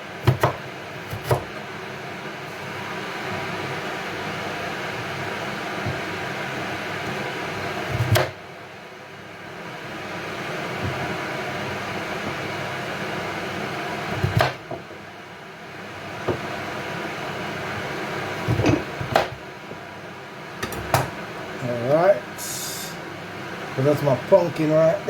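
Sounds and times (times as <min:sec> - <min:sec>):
steady kitchen hiss: 0:00.0 - 0:25.0.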